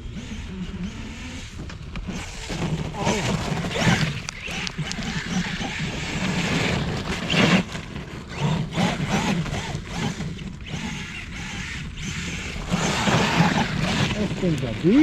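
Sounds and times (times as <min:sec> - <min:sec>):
electric motor of toy truck: 0:00.0 - 0:15.0
tires churning snow: 0:00.0 - 0:15.0.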